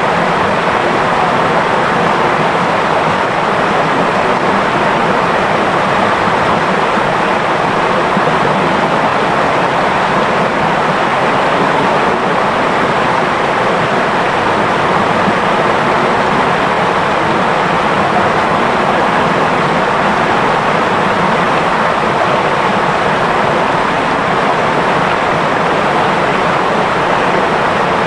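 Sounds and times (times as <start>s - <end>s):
river water flowing: 0.0s - 28.0s.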